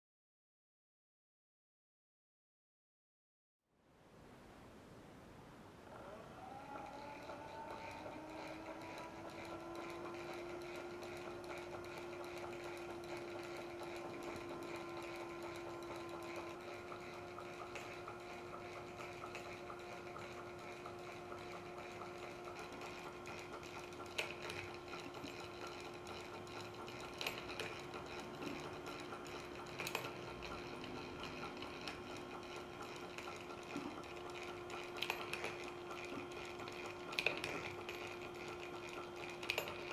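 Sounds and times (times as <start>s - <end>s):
electric motor whine: 5.8s - 39.9s
press mechanism clatter: 6.7s - 39.9s.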